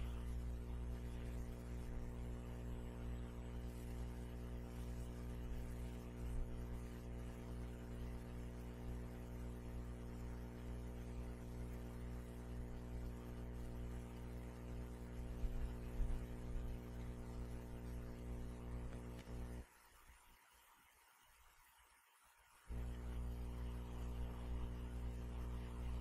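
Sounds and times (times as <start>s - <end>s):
electrical hum: 0.0s - 19.8s, 22.7s - 26.0s.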